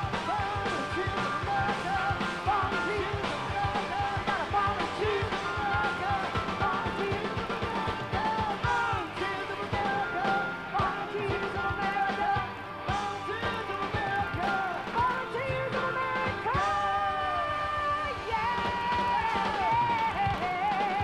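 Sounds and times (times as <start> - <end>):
live rock band playing: 0.0 - 21.0
steady drum beat: 0.0 - 21.0.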